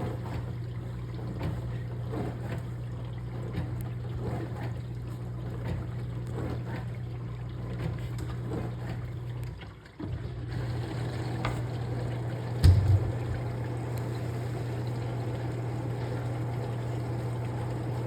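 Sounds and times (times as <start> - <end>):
dishwasher pump motor humming: 0.0 - 18.0.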